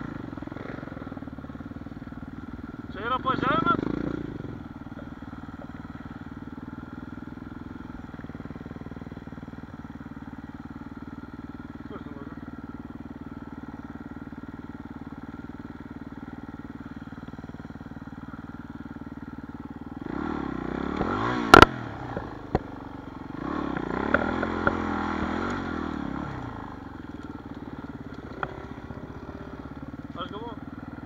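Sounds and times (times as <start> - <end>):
dirt bike engine idling and revving: 0.0 - 31.0.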